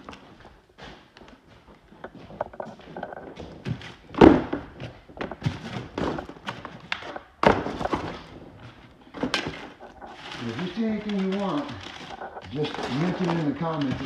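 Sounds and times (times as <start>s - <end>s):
objects knocking and clattering: 2.0s - 14.0s.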